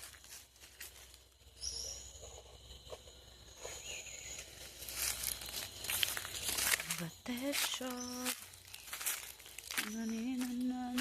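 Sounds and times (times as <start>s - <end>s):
insects calling in high thin tones: 0.0s - 11.0s.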